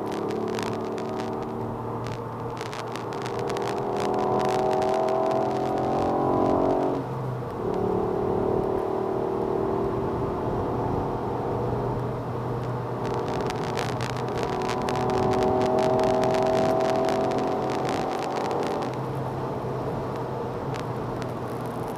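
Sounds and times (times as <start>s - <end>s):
car engine under hard driving: 0.0s - 21.9s.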